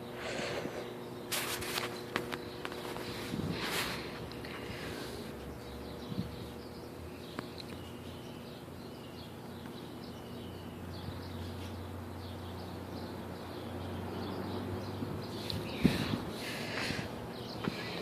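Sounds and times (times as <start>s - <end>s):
small birds chirping: 0.0s - 18.0s
steady low hum: 0.0s - 18.0s.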